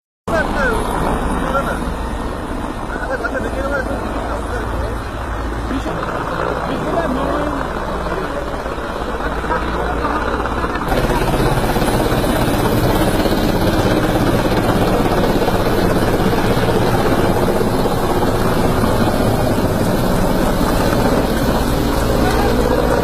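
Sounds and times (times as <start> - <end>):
helicopter rotor and engine: 0.3 - 23.0.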